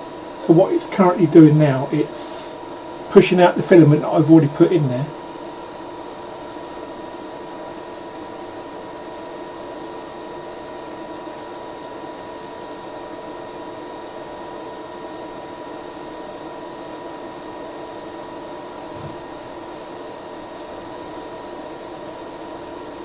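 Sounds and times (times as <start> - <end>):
constant high whine: 0.0 - 23.0
printer fan hum: 0.0 - 23.0.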